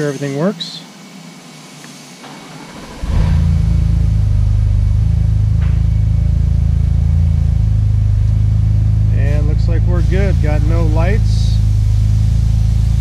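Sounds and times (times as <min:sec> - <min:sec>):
car engine starting and idling: 0:02.2 - 0:13.0.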